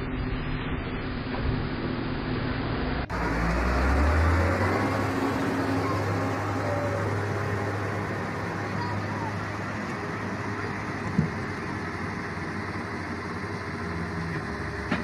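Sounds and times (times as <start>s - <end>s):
diesel excavator engine running: 0.0s - 15.0s
low engine hum: 0.0s - 15.0s.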